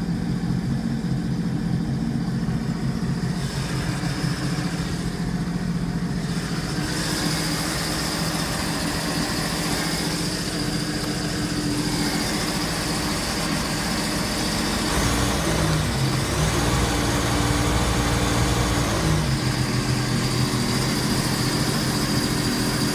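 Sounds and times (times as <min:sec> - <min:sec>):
personal watercraft engine idling: 0:00.0 - 0:22.9.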